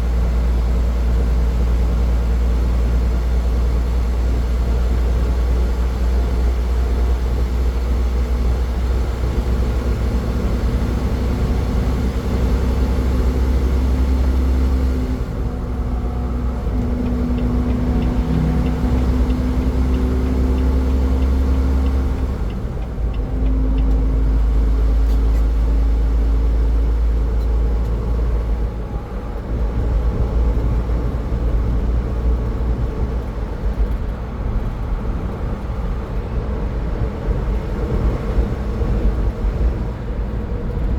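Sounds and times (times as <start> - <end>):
road rumble from car: 0.0 - 40.9.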